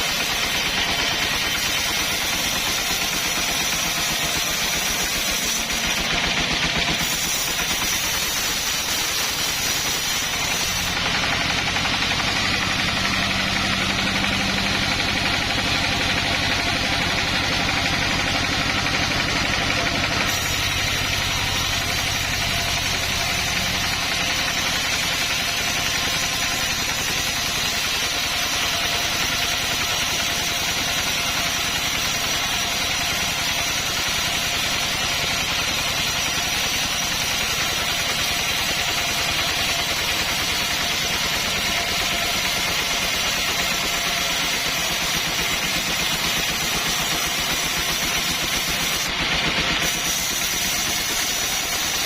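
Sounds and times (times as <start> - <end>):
chainsaw engine running: 0.0 - 52.0.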